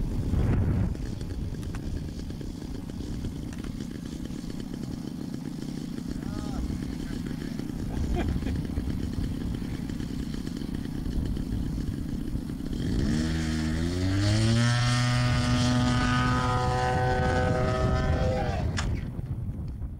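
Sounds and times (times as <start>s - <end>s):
model airplane engine: 0.0s - 19.9s.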